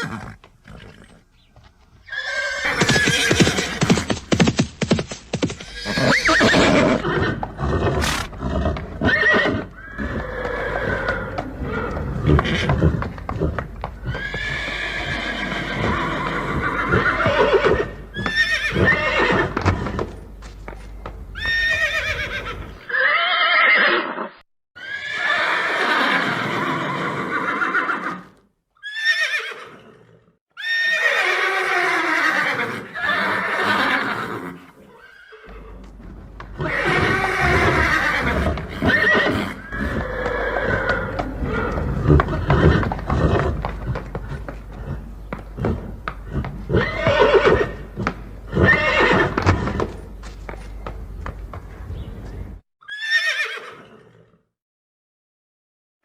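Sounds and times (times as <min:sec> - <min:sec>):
horses neighing: 0:00.0 - 0:20.3, 0:21.3 - 0:50.6, 0:51.2 - 0:54.4.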